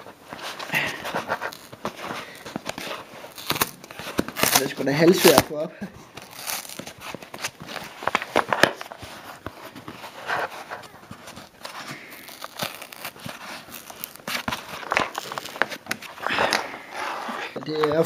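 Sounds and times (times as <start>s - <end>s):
box handling rustles and clicks: 0.0s - 18.0s
cardboard tearing: 0.0s - 18.0s.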